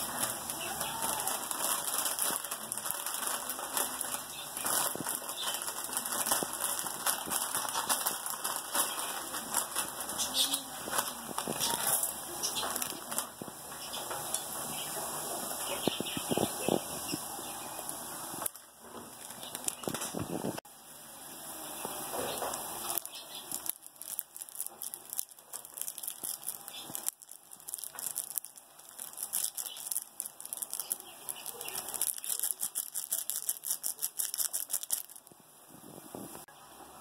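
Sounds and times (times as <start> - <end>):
water boiling in a pot: 0.0 - 32.2.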